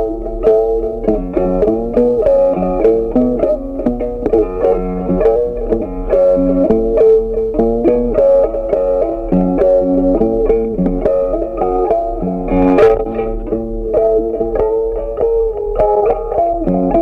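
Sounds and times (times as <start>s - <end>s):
upbeat plucked guitar-like music: 0.0s - 17.0s.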